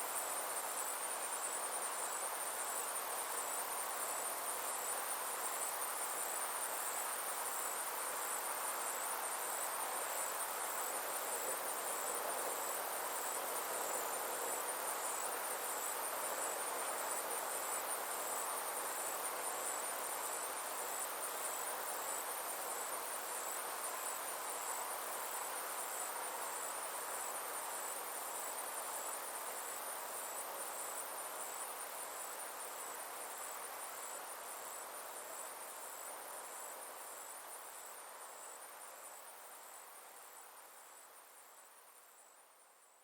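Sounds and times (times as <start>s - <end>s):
insects chirring: 0.0s - 42.5s.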